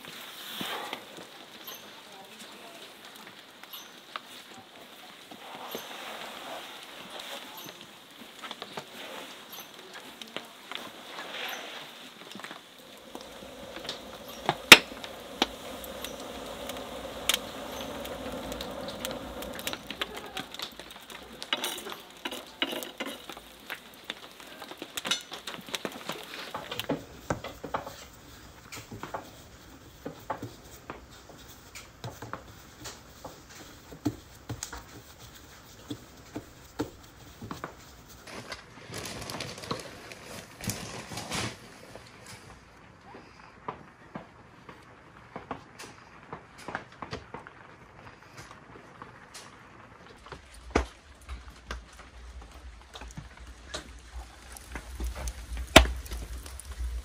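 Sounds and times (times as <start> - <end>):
steady hiss: 0.0 - 43.5, 47.9 - 57.0.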